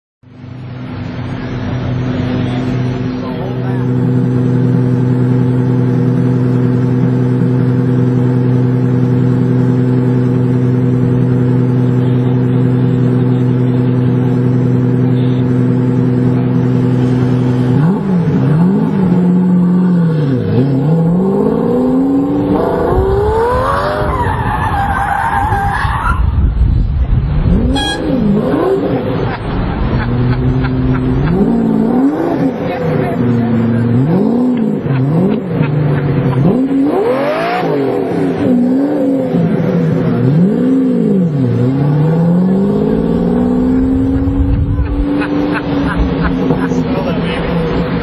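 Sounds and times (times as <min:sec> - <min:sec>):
car engine revving: 0:00.4 - 0:48.0.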